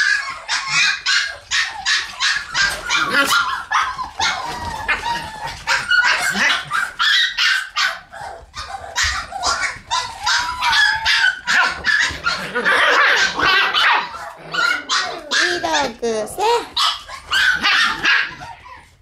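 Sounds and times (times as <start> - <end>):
puppies yipping and barking: 0.0 - 19.0.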